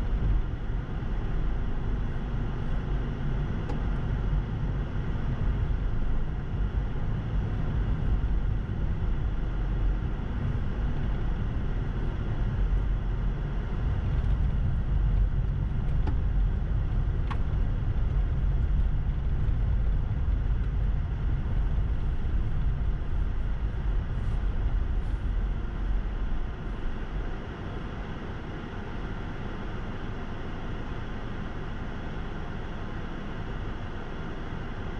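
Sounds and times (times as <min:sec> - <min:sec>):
car tyres and engine rumbling: 0:00.0 - 0:34.9.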